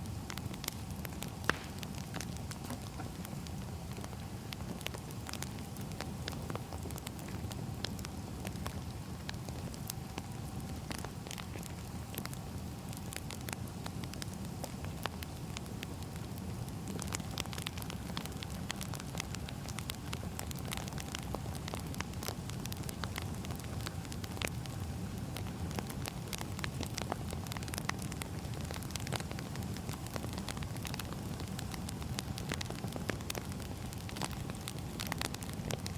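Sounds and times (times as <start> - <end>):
firewood crackling and popping: 0.0 - 35.9.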